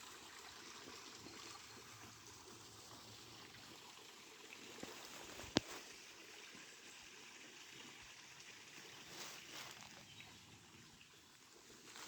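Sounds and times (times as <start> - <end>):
running water hiss: 0.0 - 12.0.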